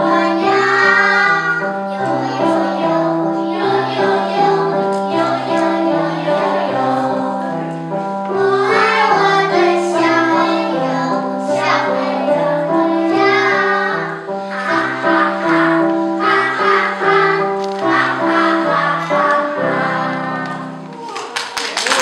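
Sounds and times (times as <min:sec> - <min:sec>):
children singing together: 0:00.0 - 0:21.0
instrumental backing of held notes: 0:00.0 - 0:21.4.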